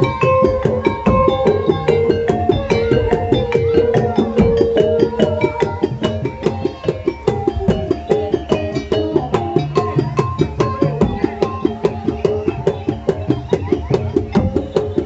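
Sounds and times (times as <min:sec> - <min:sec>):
drums beating fast: 0:00.0 - 0:15.0
gamelan melody: 0:00.0 - 0:15.0.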